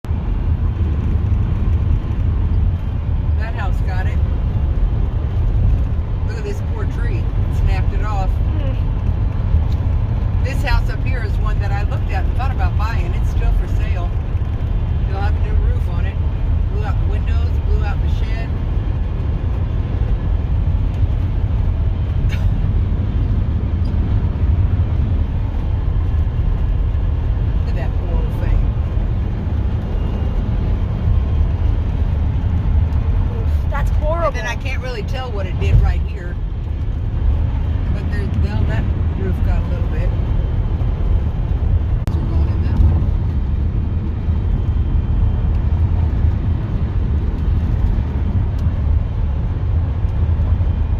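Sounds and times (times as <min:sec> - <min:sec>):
vehicle road and engine rumble: 0:00.0 - 0:50.9.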